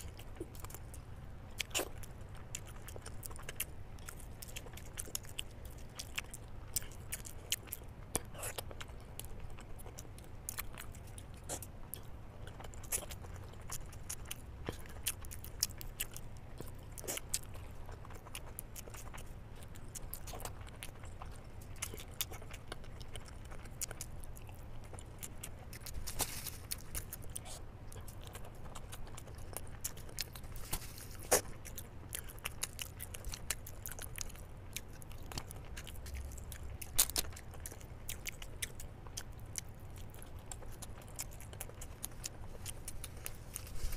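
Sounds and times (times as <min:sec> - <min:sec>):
chewing and wet mouth clicks: 0:00.0 - 0:43.9.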